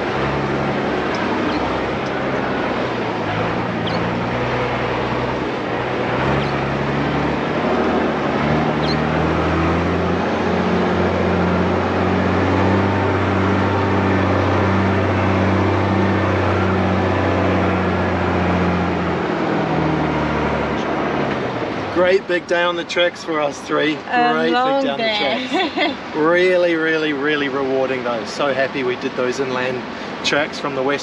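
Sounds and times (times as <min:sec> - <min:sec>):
road and tyre noise: 0:00.0 - 0:31.0
truck diesel engine under load: 0:00.0 - 0:31.0.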